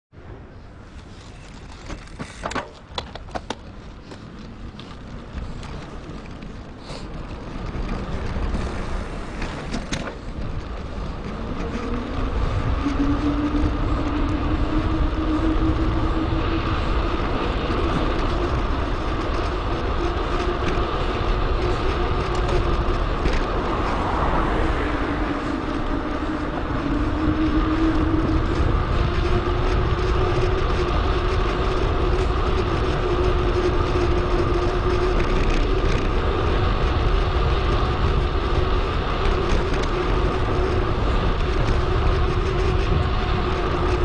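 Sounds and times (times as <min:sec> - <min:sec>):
wind and road noise: 0:00.1 - 0:44.0
continuous hum: 0:00.2 - 0:44.0.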